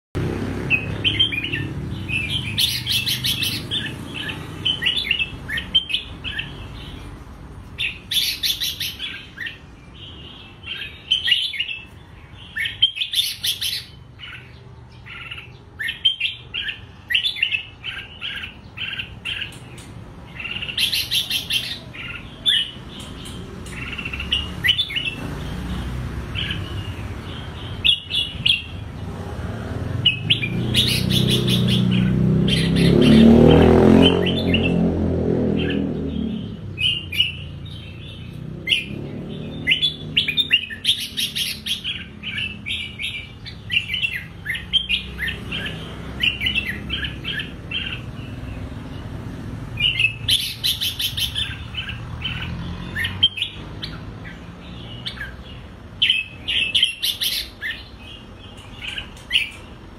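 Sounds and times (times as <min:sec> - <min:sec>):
bulbul singing: 0:00.2 - 0:59.9.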